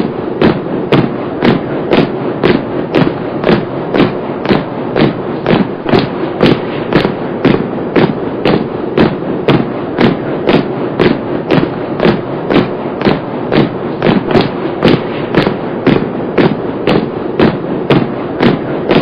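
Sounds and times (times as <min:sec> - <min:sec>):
background noise: 0:00.0 - 0:19.0
marching footsteps in unison: 0:00.0 - 0:19.0.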